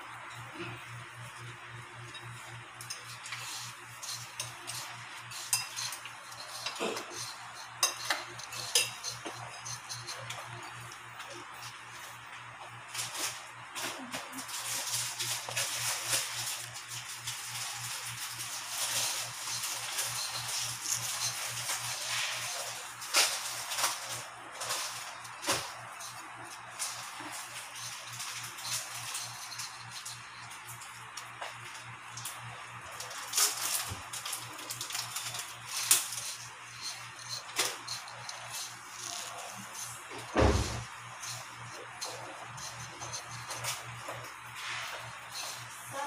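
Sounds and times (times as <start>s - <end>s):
breadcrumbs rustling in a bowl: 0.4s - 46.0s.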